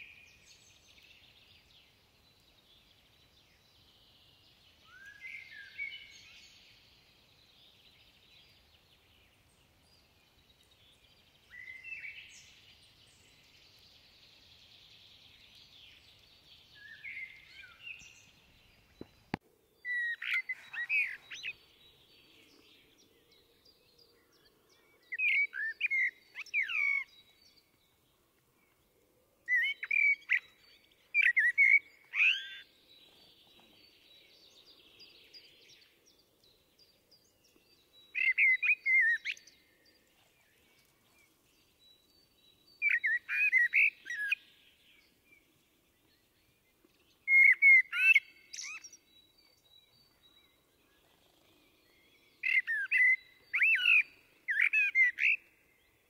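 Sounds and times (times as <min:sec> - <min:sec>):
blackbird singing: 0:00.0 - 0:28.0, 0:29.4 - 0:56.0.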